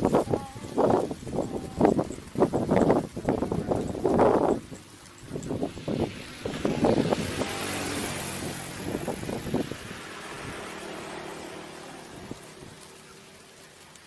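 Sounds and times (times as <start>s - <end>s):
car passing: 0.0s - 14.0s.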